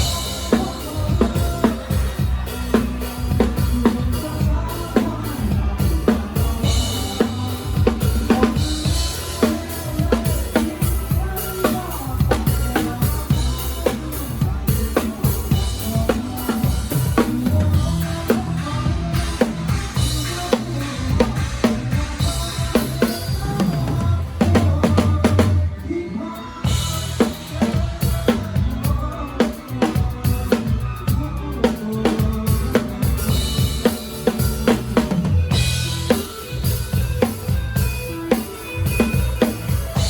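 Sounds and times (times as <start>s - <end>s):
band playing music: 0.0s - 40.0s
live drum kit: 0.0s - 40.0s.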